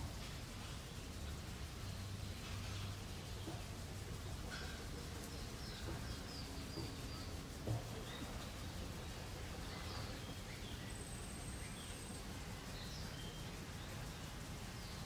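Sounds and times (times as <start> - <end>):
birds chirping: 0.8 - 15.0.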